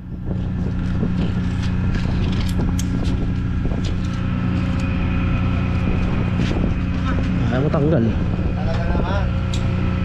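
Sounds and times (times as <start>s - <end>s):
motor engine humming: 0.0s - 10.0s.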